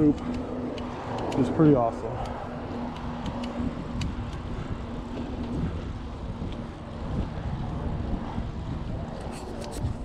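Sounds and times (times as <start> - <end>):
low road noise rumble: 0.0 - 10.0
wind buffeting microphone: 0.0 - 10.0.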